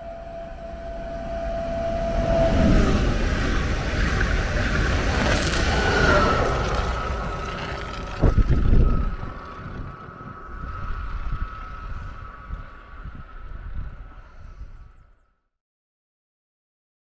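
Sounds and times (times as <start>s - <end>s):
steady high tone: 0.0s - 14.6s
train rumbling past: 0.0s - 15.1s
wind gust on microphone: 0.0s - 15.1s.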